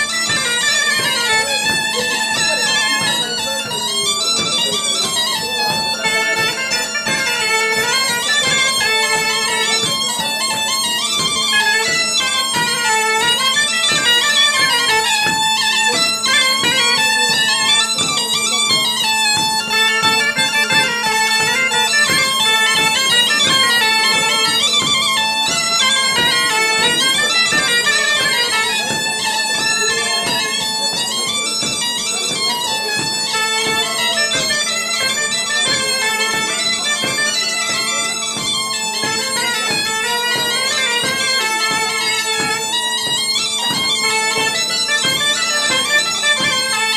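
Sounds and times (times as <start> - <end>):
bagpipes playing a dance tune: 0.0 - 46.9.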